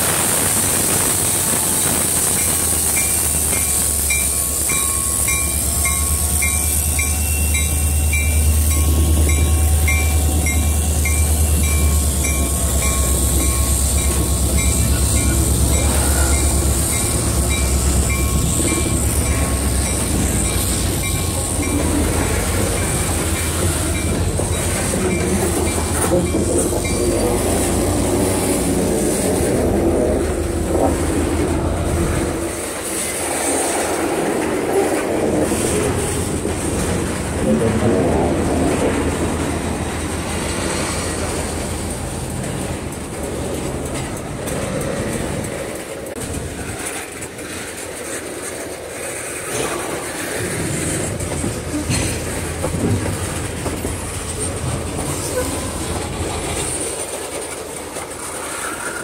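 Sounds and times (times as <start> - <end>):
diesel locomotive drone: 0.0 - 59.0
wheels clicking over rail joints: 2.3 - 59.0.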